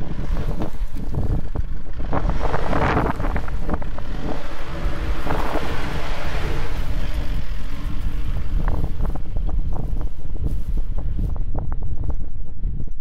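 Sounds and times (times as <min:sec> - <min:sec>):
tyres crackling over dry grass: 0:00.0 - 0:11.5
pickup truck engine running: 0:00.0 - 0:13.0
wind buffeting microphone: 0:00.0 - 0:13.0.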